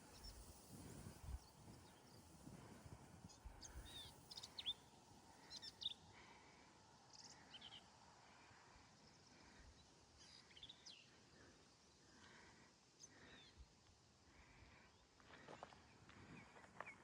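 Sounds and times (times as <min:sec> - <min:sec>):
quiet outdoor hiss: 0:00.0 - 0:17.0.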